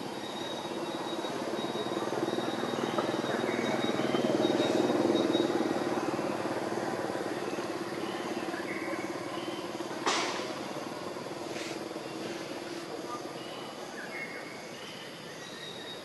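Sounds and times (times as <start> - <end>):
vehicle engine hum: 0.0 - 14.7.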